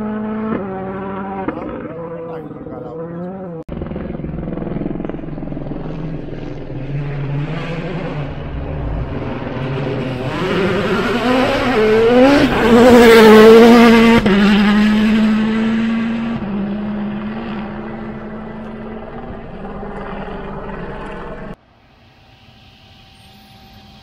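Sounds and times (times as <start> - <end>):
rally car engine revving past: 0.0 - 4.2, 5.1 - 21.1.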